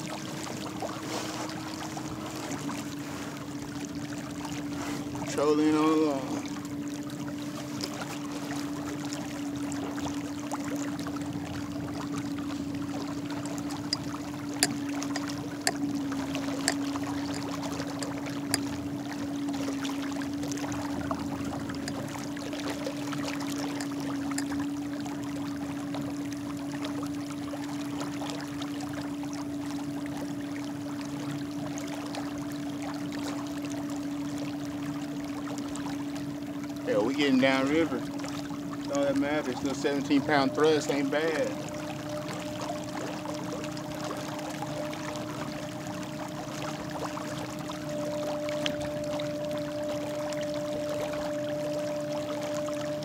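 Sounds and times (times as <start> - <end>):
water rushing: 0.0 - 29.2, 35.2 - 53.0.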